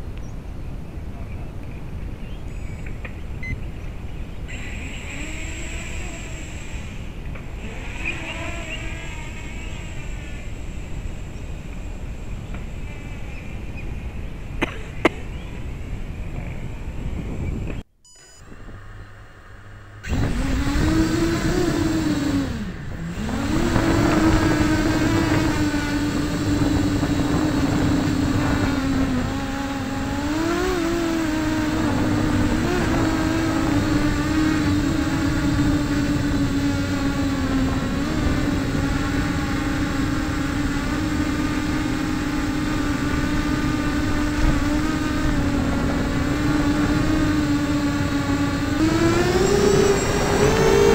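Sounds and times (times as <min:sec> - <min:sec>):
quadcopter buzzing whine: 0:02.2 - 0:50.9.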